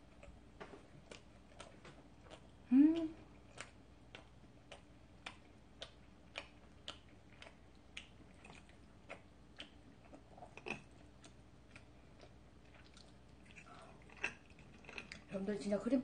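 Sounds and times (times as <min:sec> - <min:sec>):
chewing pasta: 0:00.0 - 0:15.9.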